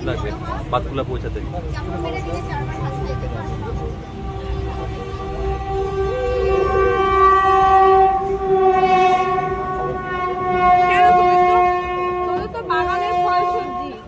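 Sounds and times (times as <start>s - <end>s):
moving train rumbling: 0.0s - 14.0s
train horn blowing: 1.6s - 14.0s.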